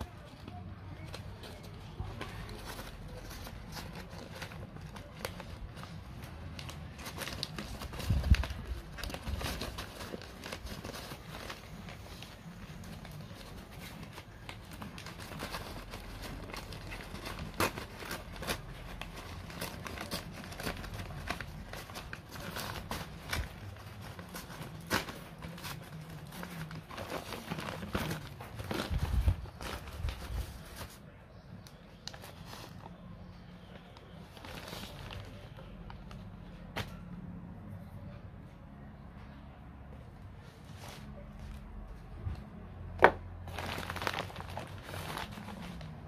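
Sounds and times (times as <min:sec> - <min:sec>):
paper bag crinkling: 0:00.0 - 0:37.0, 0:42.2 - 0:46.0.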